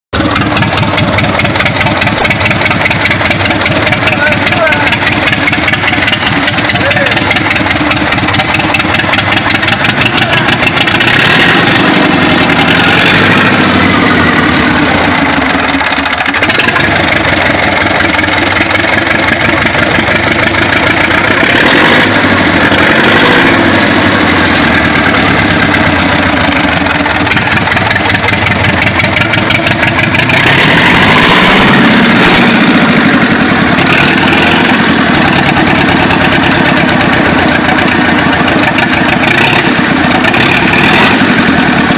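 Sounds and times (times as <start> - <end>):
truck engine revving: 0.2 - 41.9.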